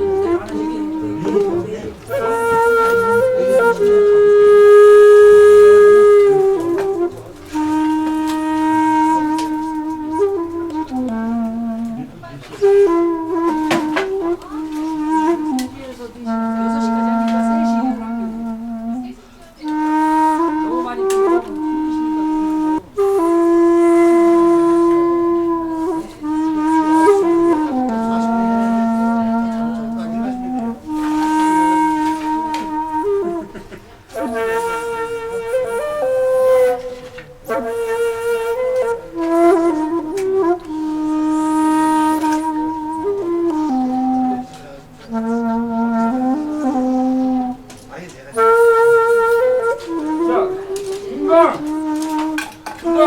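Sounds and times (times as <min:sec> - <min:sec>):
wind instrument slow melody: 0:00.0 - 0:53.0.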